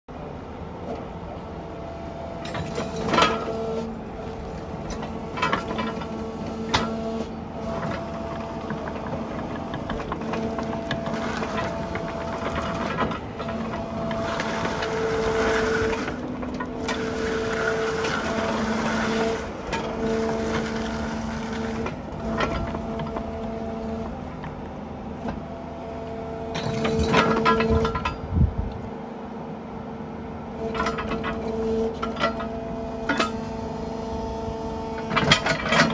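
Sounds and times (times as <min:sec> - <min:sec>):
hydraulic system whine: 0:00.1 - 0:29.4, 0:30.4 - 0:35.9.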